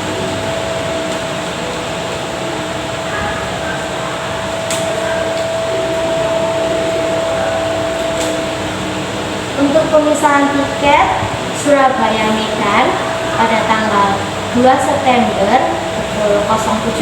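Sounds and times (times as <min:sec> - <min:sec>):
hum-like tone: 0:00.0 - 0:17.0.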